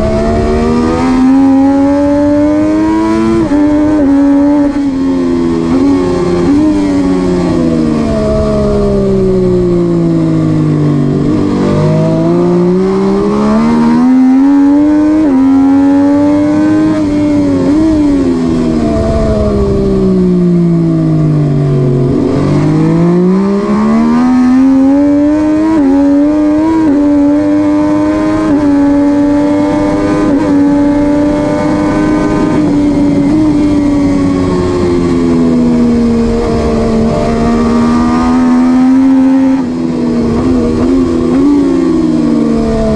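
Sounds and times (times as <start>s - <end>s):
motorcycle engine racing: 0.0s - 42.9s.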